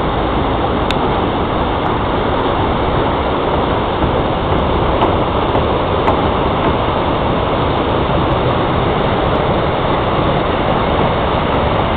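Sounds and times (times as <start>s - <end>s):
water rushing: 0.0s - 11.9s.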